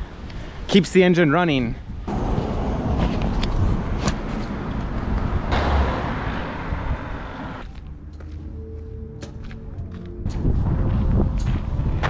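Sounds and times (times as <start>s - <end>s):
cars passing on busy street: 0.0s - 12.0s.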